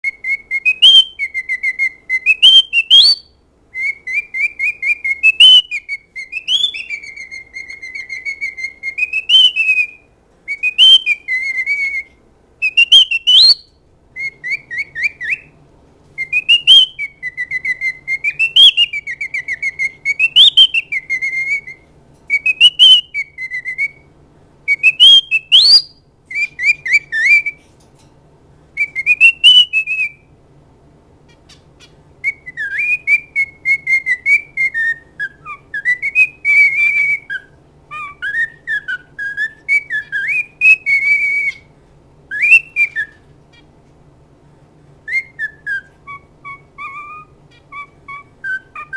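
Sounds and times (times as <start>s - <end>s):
cockatiel whistling: 0.0s - 15.6s, 16.2s - 24.1s, 24.7s - 27.6s, 28.8s - 30.3s, 31.5s - 41.7s, 42.3s - 43.3s, 45.0s - 48.9s.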